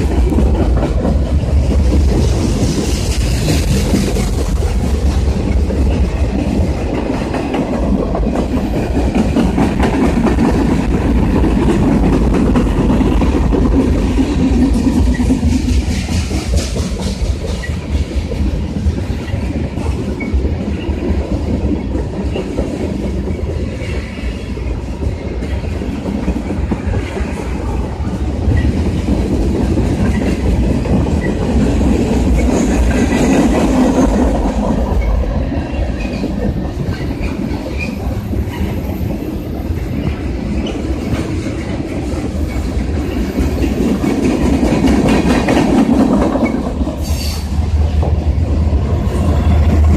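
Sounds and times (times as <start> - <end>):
freight train wheels on rails: 0.0 - 49.9.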